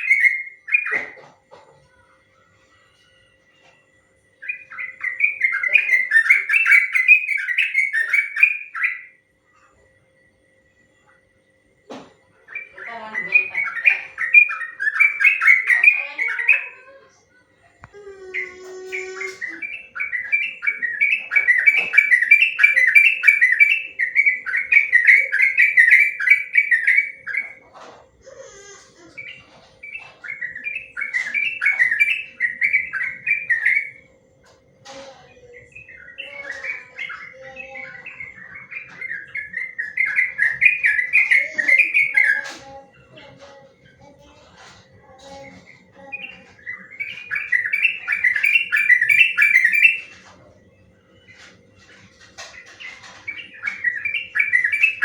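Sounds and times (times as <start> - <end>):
bird rapid chattering song: 0.0 - 2.0, 4.4 - 9.2, 12.4 - 17.0, 18.3 - 27.9, 29.0 - 55.0.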